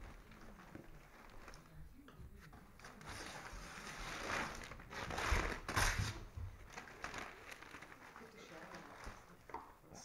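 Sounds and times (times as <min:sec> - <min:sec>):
cardboard packaging rustling: 0:00.0 - 0:01.9, 0:02.8 - 0:09.4.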